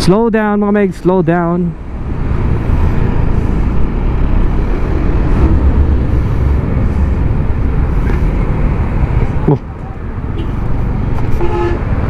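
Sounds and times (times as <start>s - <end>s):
scooter engine and road noise: 0.0s - 12.0s
wind rushing over microphone: 1.7s - 12.0s.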